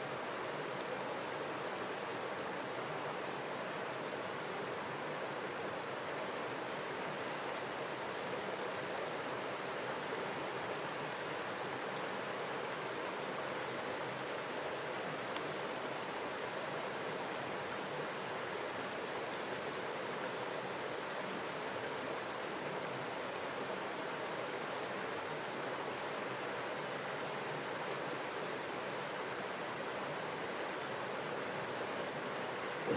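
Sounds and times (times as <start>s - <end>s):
stream water rushing: 0.0s - 32.9s.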